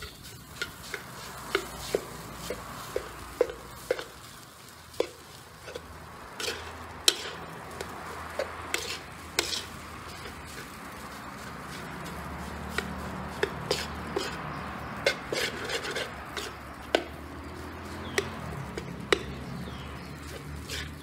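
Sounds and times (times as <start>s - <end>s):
metal spatula scraping a wok: 0.0s - 18.0s, 20.0s - 21.0s.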